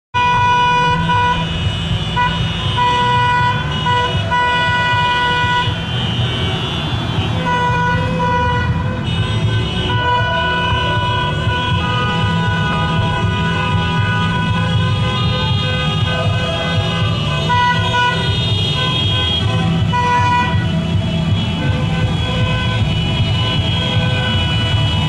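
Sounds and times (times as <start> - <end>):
car horns blasting: 0.2 - 25.0
low rumble of traffic: 0.2 - 25.0.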